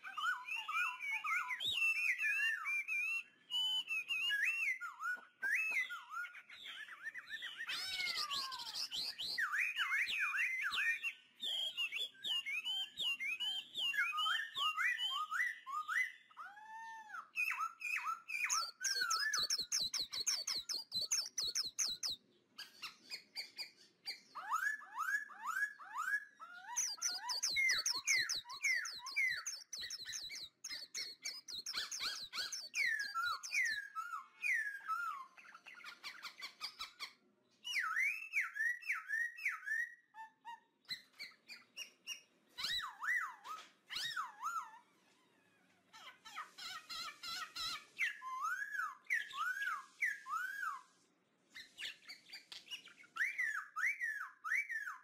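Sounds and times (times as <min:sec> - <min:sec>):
bird trilling: 0:00.0 - 0:40.1, 0:40.9 - 0:50.9
birds singing and chirping: 0:00.0 - 0:55.0.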